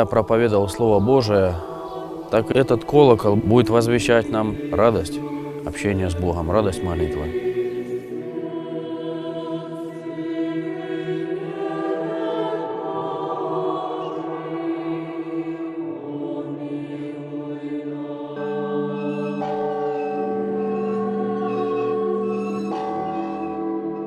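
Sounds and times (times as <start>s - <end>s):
choir chanting sustained chords: 0.0s - 24.0s.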